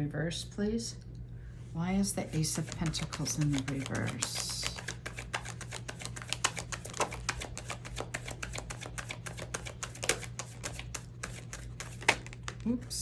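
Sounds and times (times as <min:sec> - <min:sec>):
steady low hum: 0:00.0 - 0:13.0
cards being shuffled: 0:02.2 - 0:12.7.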